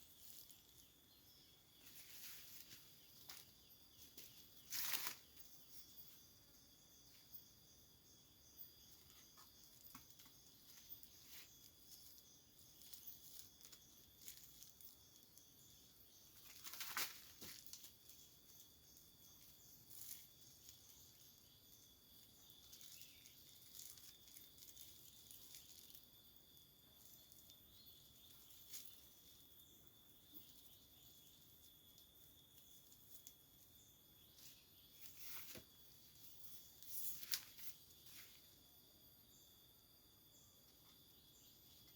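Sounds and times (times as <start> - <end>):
rustle: 0.0 - 7.5, 8.1 - 38.7
forest insects droning: 0.0 - 41.9.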